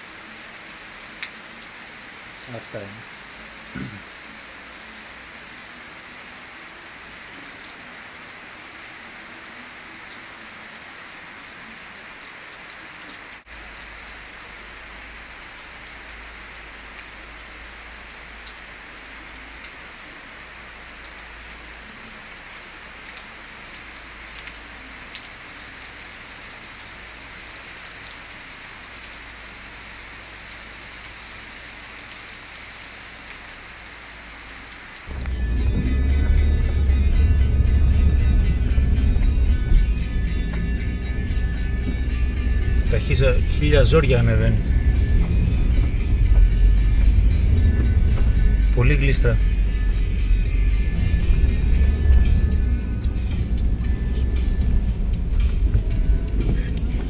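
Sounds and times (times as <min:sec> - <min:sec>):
steady rain on roofs: 0:00.0 - 0:57.0.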